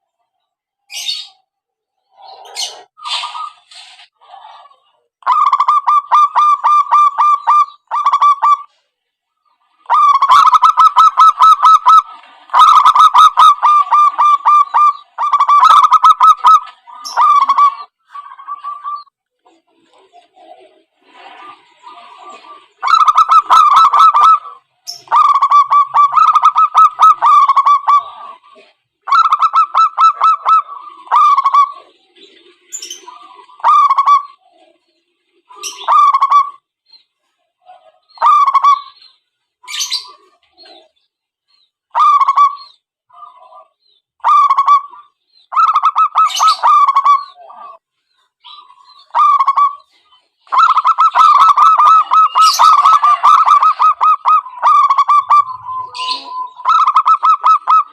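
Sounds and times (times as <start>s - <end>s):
doves cooing: 2.0s - 8.8s, 9.4s - 36.7s, 37.6s - 41.0s, 42.0s - 47.8s, 48.4s - 57.9s.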